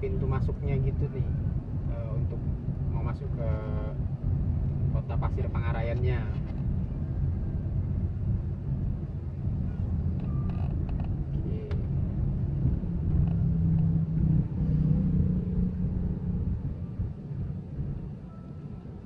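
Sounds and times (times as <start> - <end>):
car interior road rumble: 0.0 - 19.0
engine hum: 0.0 - 19.0.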